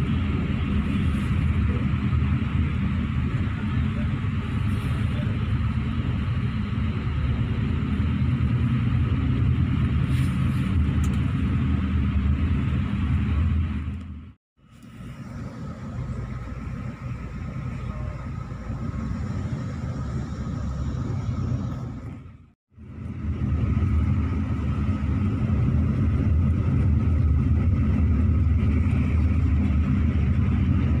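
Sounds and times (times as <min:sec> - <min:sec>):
coach engine and road rumble: 0:00.0 - 0:31.0.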